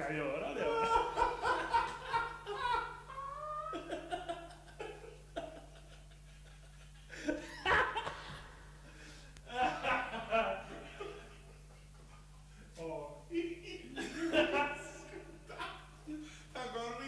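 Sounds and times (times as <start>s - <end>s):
men laughing: 0.5s - 17.0s.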